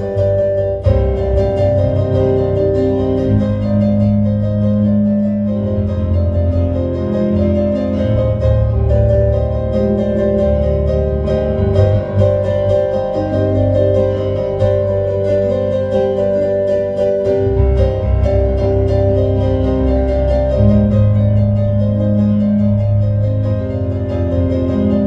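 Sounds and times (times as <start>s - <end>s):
solo piano: 0.0s - 25.0s.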